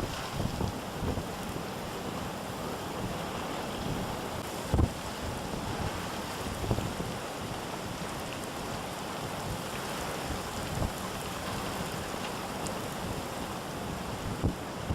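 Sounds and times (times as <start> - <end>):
storm wind blowing: 0.0 - 14.9
wind gusts buffeting microphone: 0.0 - 14.9.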